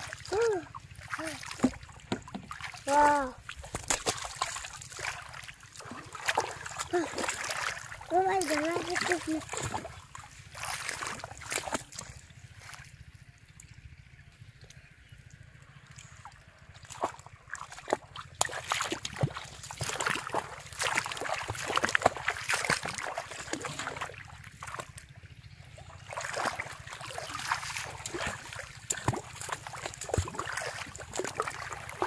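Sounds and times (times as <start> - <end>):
splashing in muddy water: 0.0 - 32.0.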